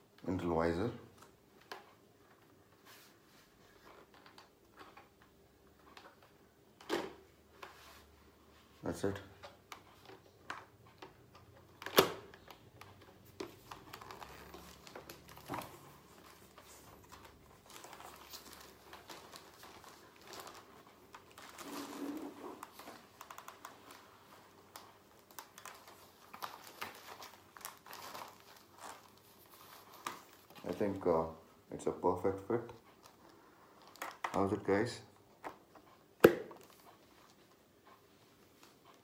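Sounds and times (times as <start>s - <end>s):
helmet rustling and plastic clicks: 0.0s - 31.4s, 32.5s - 39.0s.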